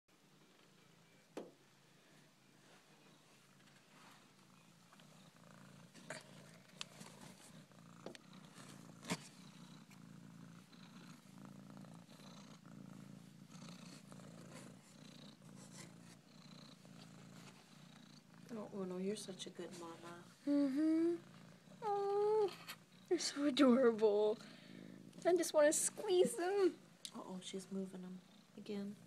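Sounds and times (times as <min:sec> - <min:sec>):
cat purring: 0:00.1 - 0:29.0.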